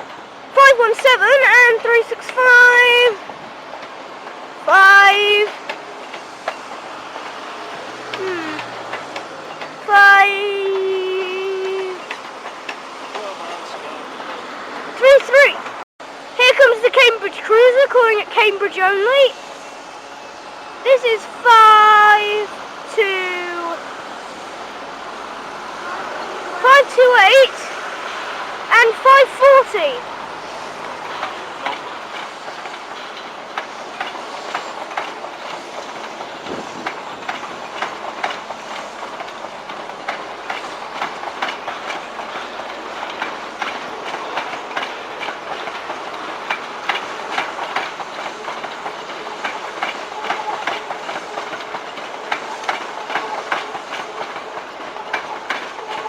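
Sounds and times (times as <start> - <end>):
train wheels clacking over rail joints: 0.0 - 15.8, 20.9 - 56.0
train low rumble: 0.0 - 56.0.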